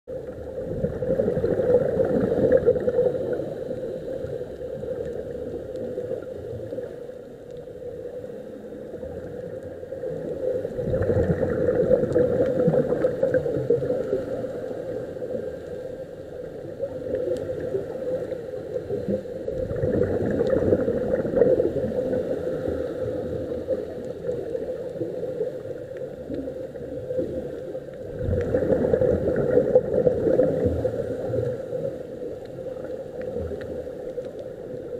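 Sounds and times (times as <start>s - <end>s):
muffled underwater hum: 0.1s - 34.9s
scuba exhaust bubbles gurgling: 0.1s - 34.9s.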